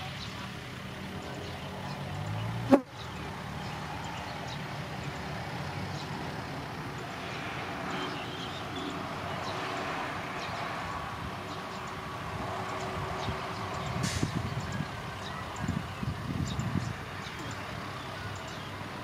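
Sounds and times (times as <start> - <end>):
diesel truck engines running: 0.0 - 19.0.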